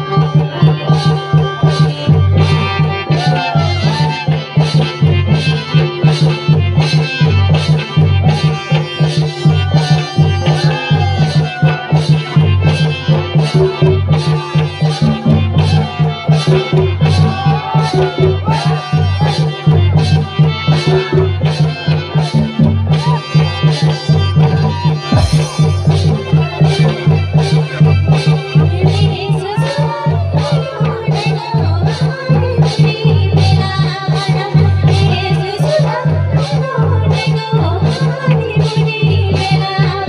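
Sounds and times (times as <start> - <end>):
steady drum beat: 0.0 - 40.0.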